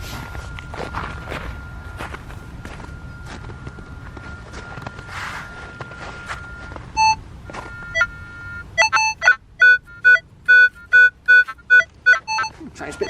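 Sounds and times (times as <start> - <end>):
metal detector beeping: 0.0 - 13.0.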